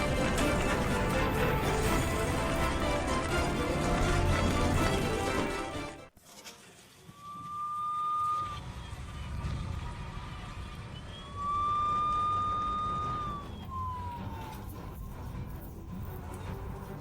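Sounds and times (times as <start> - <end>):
fire truck siren: 0.0 - 5.9, 7.0 - 16.6
truck engine rumble: 0.0 - 6.1, 7.2 - 17.0.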